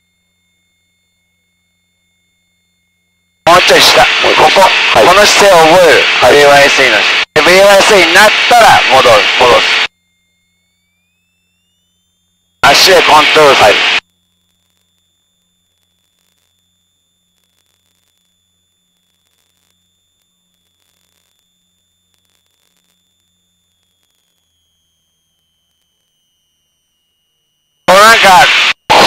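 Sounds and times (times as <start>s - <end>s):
high electronic whine: 0.0s - 29.0s
low hum: 0.0s - 29.0s.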